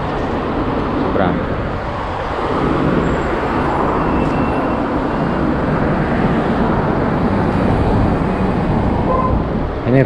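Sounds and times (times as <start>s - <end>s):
street traffic rush: 0.0s - 10.0s.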